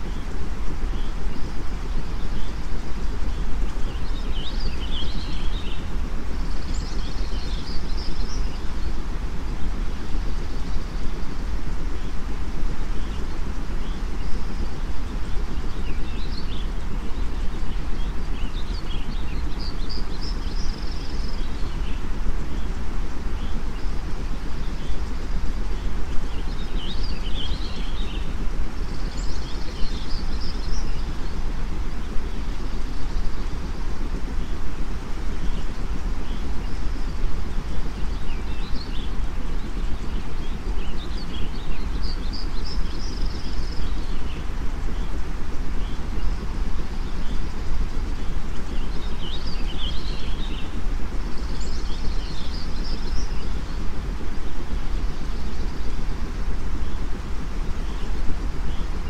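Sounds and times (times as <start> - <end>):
birds chirping: 0.0 - 59.0
low white noise: 0.0 - 59.0.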